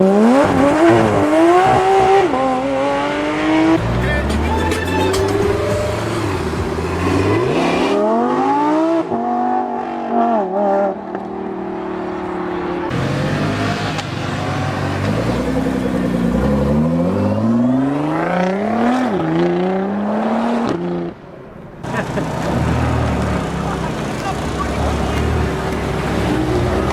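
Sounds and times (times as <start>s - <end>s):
car engine accelerating through gears: 0.0s - 21.2s, 21.8s - 26.9s.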